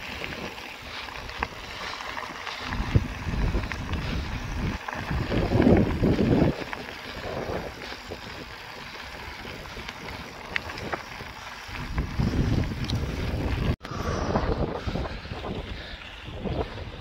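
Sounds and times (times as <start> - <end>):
mountain bike trail rumble: 0.0 - 17.0
wind buffeting microphone: 0.0 - 17.0.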